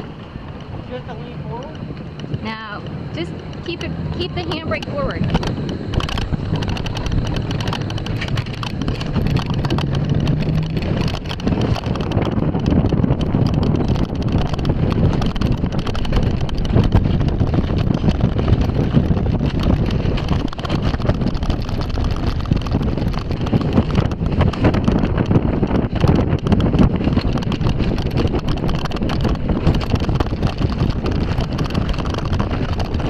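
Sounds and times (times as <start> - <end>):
coaster wheels rumbling and rattling: 0.0 - 33.0
wind buffeting microphone: 0.0 - 33.0.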